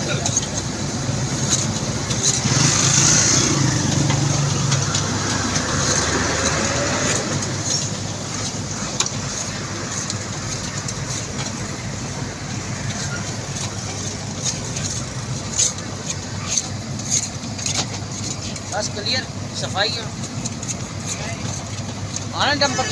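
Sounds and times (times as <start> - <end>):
heavy machinery engine running: 0.0 - 22.9.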